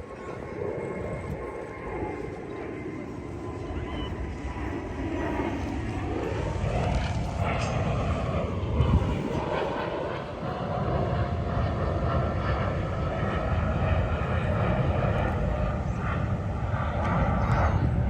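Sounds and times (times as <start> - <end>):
jet airliner flying over: 0.0 - 18.0.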